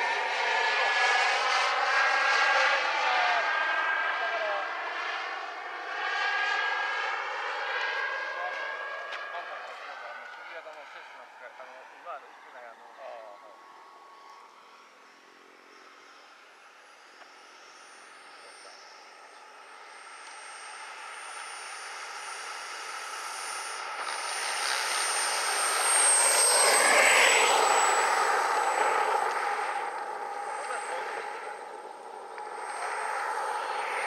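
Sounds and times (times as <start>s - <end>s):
model jet engine whining: 0.0s - 34.0s.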